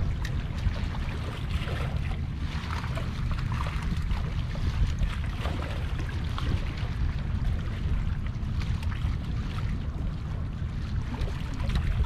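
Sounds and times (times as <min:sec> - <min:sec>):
small water splashes: 0:00.0 - 0:12.0
wind rumbling on microphone: 0:00.0 - 0:12.0.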